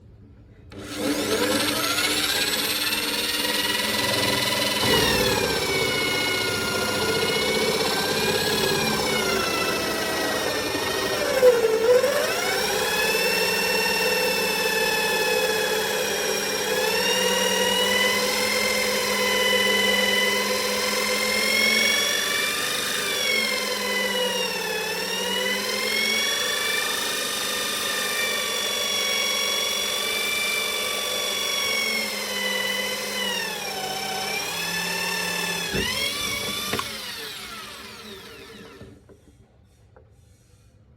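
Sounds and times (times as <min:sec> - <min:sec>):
drill motor whining into stone: 0:00.7 - 0:39.2.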